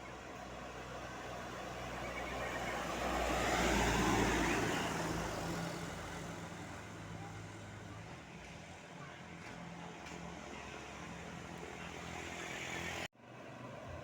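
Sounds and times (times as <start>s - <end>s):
bus driving past: 0.0s - 14.0s.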